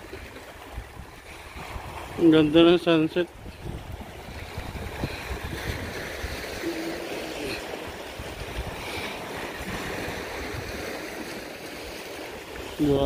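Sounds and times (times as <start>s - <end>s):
sea waves on rocks: 0.0s - 13.0s
wind buffeting microphone: 0.0s - 13.0s.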